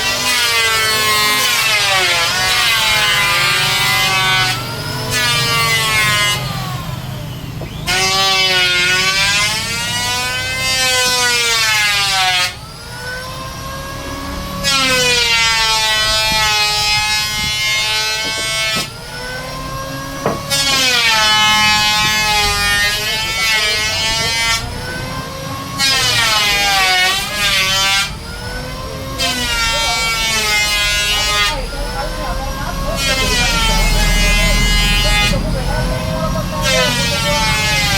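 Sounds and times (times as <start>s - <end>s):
power tool whining cutting wood: 0.0s - 37.9s.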